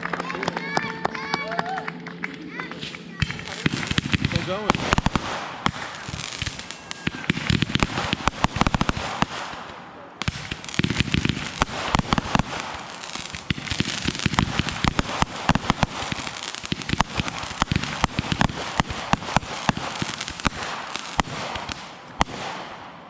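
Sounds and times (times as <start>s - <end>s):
fireworks banging and crackling: 2.5s - 23.0s.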